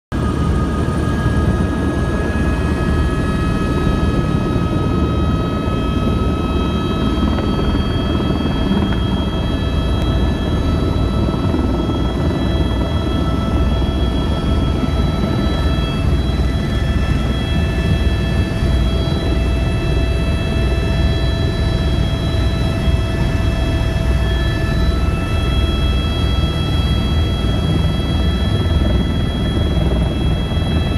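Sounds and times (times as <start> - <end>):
helicopter rotor rumble: 0.1 - 30.9
high-pitched turbine whine: 0.1 - 30.9.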